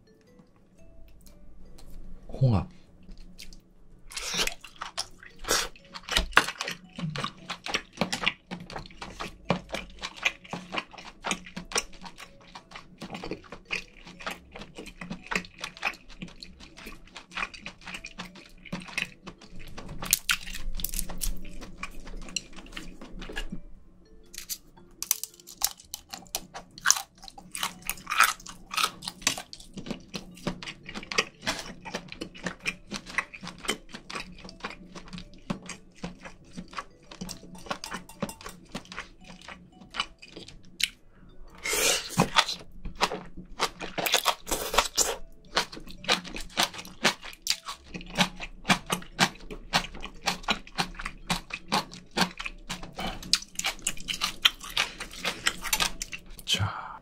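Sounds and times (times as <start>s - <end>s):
person chewing food: 2.7s - 57.0s.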